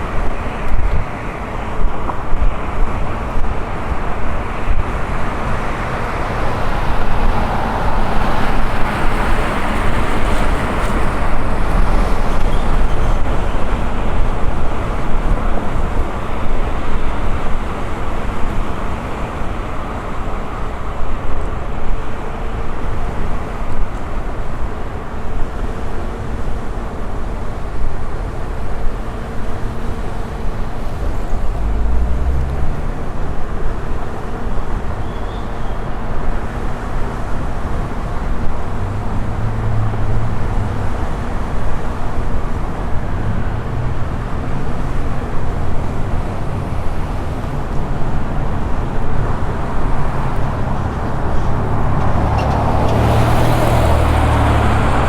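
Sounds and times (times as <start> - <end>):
rolling road noise: 0.0 - 55.0
wind rushing on microphone: 0.0 - 55.0.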